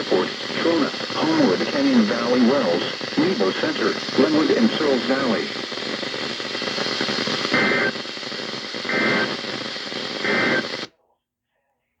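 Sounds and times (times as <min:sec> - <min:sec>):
radio hiss: 0:00.0 - 0:10.9.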